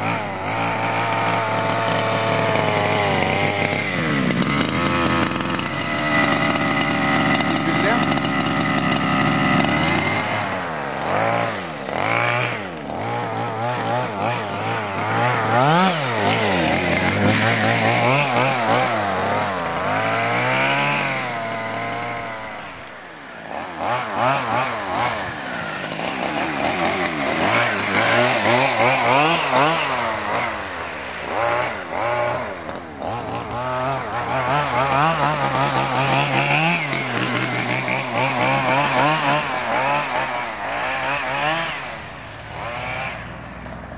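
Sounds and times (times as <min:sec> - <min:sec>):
two-stroke engine revving: 0:00.0 - 0:43.9.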